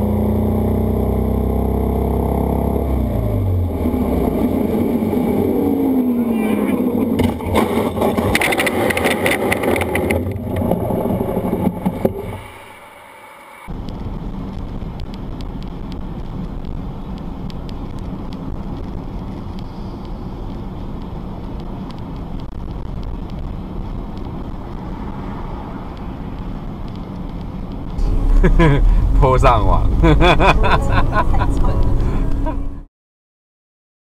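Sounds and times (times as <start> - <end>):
road and engine rumble inside car: 0.0 - 12.2, 13.7 - 32.9
rushing wind and motor noise: 0.0 - 32.8.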